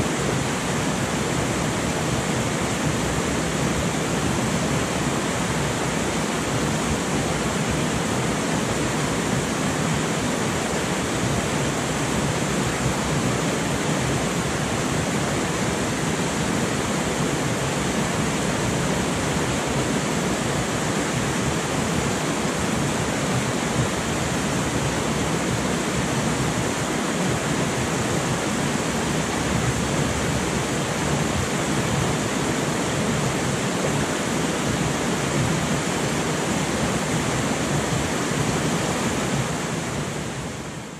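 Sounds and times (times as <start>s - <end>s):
river rapids roaring: 0.0s - 40.9s.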